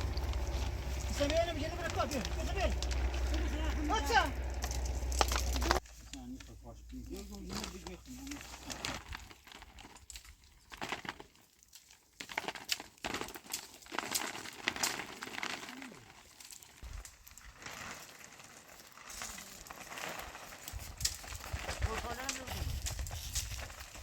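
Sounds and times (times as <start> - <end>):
crackling rustle with sharp clicks: 0.0 - 24.0.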